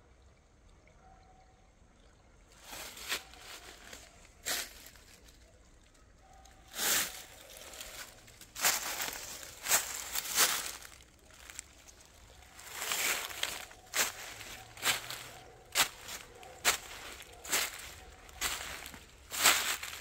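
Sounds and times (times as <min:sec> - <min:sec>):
footsteps crunching dry leaves: 0:02.6 - 0:05.4, 0:06.7 - 0:20.0.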